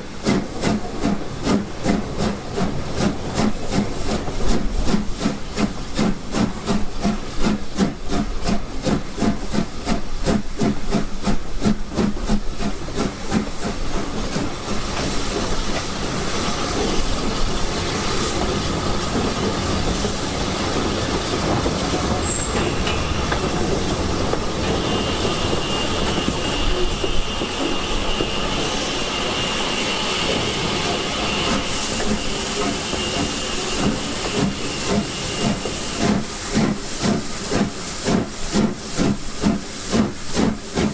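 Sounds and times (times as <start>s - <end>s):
rush of steam and rail noise: 0.0s - 40.9s
steam locomotive exhaust beats: 0.0s - 40.9s.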